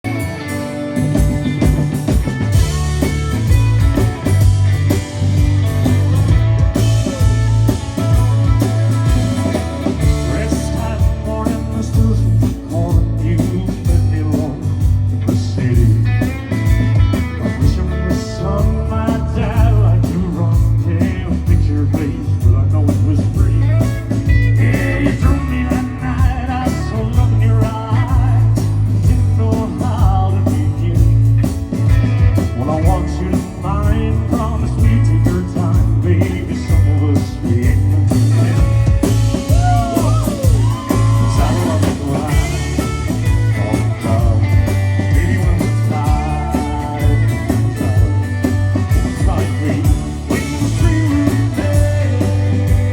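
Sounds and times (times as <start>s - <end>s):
live rock and blues band: 0.0s - 52.9s
steady bass: 0.0s - 52.9s.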